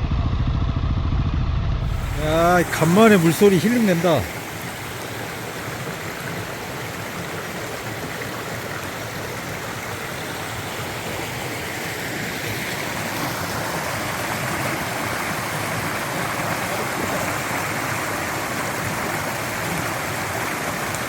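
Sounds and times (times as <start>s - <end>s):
stream rushing over rocks: 1.9s - 21.0s.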